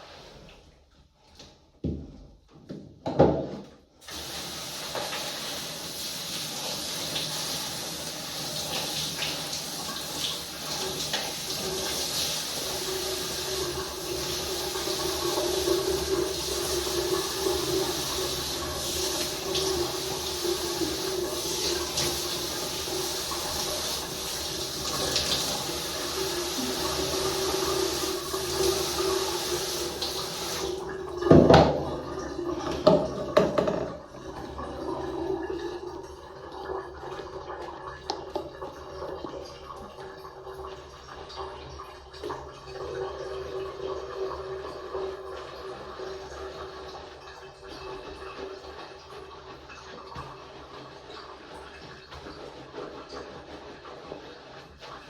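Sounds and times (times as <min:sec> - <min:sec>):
water running from a tap: 0:04.0 - 0:55.0.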